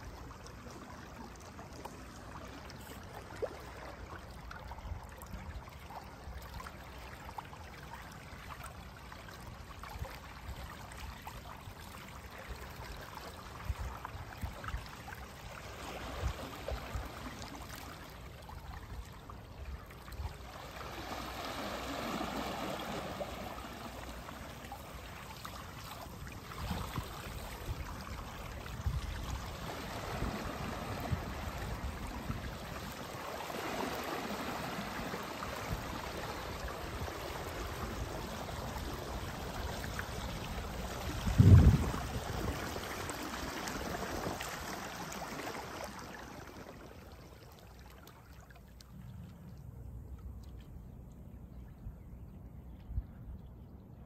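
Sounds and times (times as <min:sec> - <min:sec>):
water rushing along pontoons: 0:00.0 - 0:49.4.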